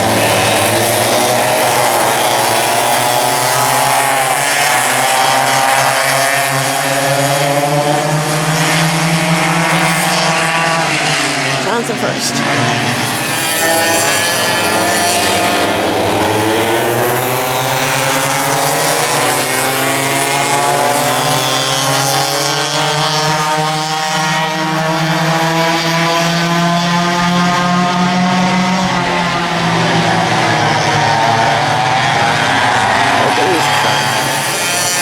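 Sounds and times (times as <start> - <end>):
racing kart engines: 0.0 - 35.0.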